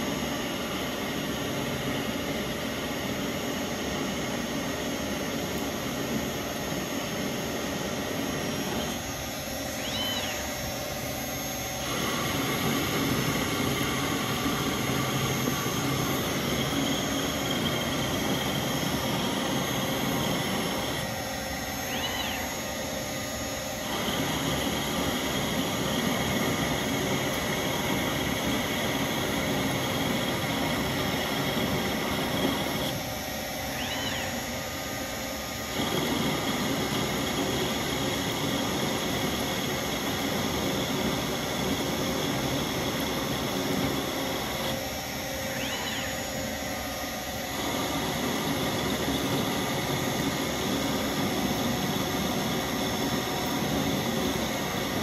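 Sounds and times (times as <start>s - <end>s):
lathe machine noise and whine: 0.0s - 55.0s.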